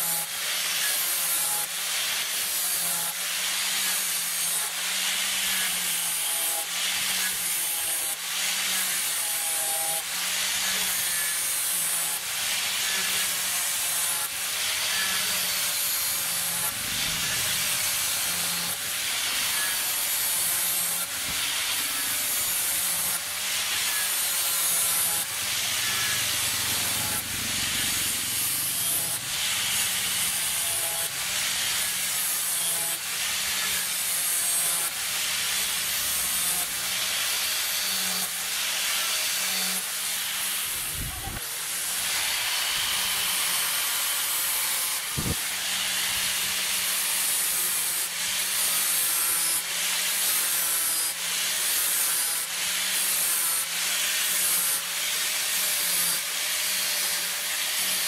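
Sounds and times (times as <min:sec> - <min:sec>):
angle grinder motor running: 0:00.0 - 0:58.0
sanding disc rasping on wood: 0:00.0 - 0:58.0.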